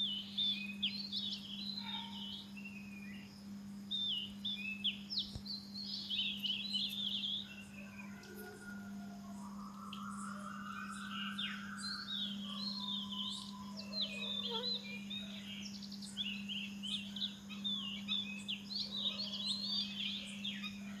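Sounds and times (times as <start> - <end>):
birds chirping: 0.0 - 21.0
steady low hum: 0.0 - 21.0.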